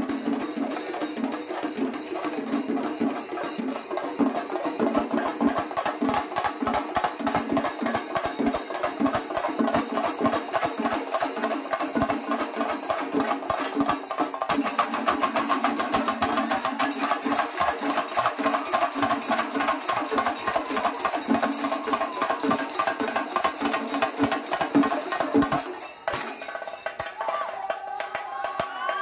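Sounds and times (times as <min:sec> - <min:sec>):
drums and cymbals ensemble: 0:00.0 - 0:29.0.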